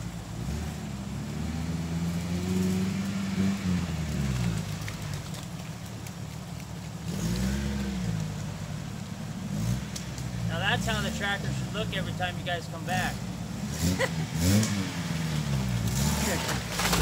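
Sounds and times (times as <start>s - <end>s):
car engine revving: 0.0s - 5.5s, 6.9s - 17.0s.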